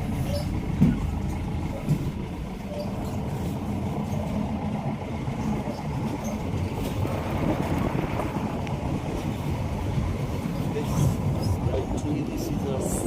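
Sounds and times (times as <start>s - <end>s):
vehicle engine running: 0.0s - 12.5s.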